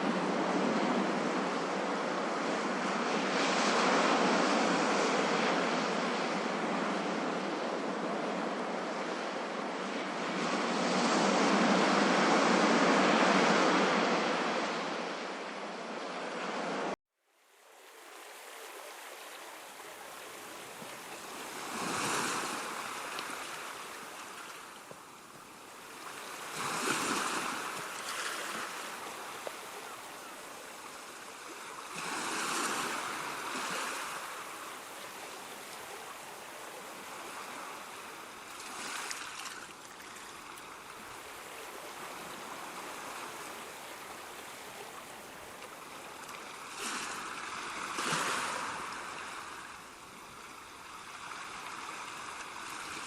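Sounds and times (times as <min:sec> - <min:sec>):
ocean waves washing in: 0:00.0 - 0:53.0.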